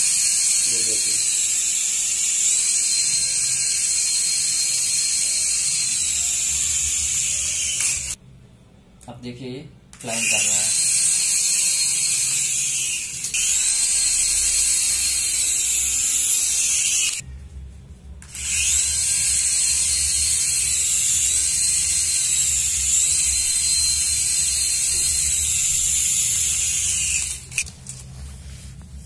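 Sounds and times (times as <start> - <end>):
toy helicopter rotors whining: 0.0 - 8.2, 10.0 - 17.2, 18.2 - 28.0.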